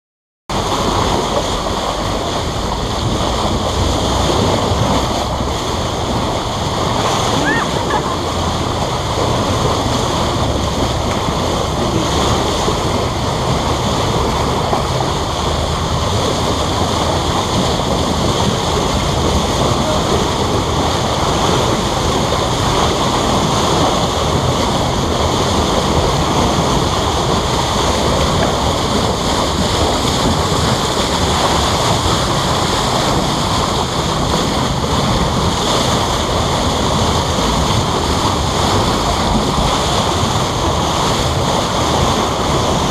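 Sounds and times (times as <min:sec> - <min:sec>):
water rushing past boat: 0:00.5 - 0:42.9
wind buffeting microphone: 0:00.5 - 0:42.9.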